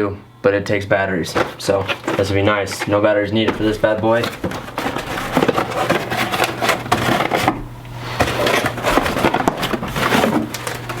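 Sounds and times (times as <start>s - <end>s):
cardboard packaging rustling: 1.2s - 11.0s.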